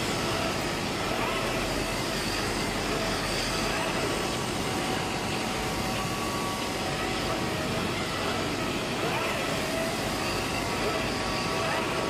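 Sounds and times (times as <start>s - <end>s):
fabric cutting machine running: 0.0s - 12.0s
faint motor whines: 0.0s - 12.0s.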